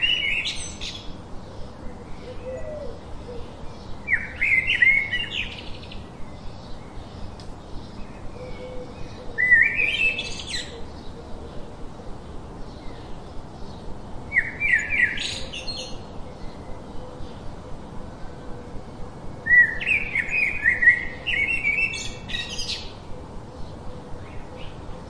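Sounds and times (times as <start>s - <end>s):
songbird rising chirps: 0.0s - 25.0s.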